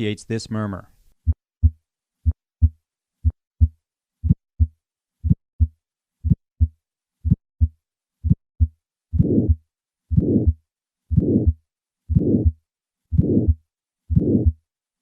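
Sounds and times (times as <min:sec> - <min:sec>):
heartbeat lub-dub: 0:01.2 - 0:06.7, 0:07.3 - 0:14.6.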